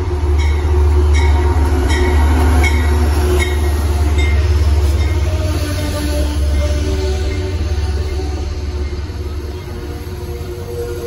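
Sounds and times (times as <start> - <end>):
train passing with heavy rumble: 0.0 - 11.0.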